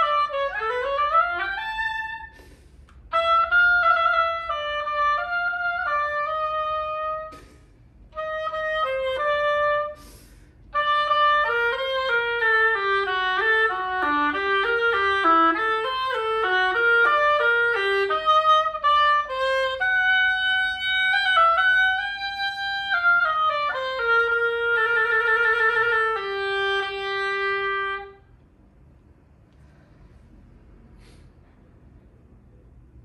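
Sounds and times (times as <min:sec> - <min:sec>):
oboe melody: 0:00.0 - 0:28.3.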